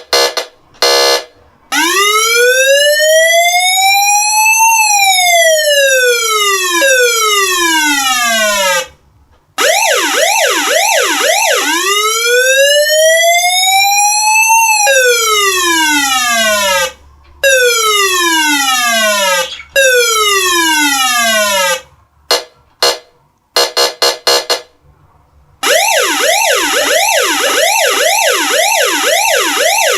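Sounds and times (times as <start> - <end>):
electronic siren wailing: 0.2 - 8.9, 9.6 - 21.9, 25.6 - 29.9.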